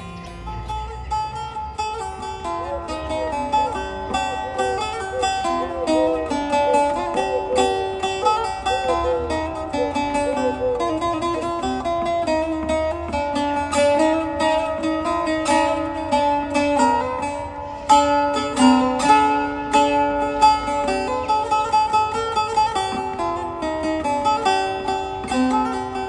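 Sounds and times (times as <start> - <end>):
plucked-string melodies: 0.0 - 26.0.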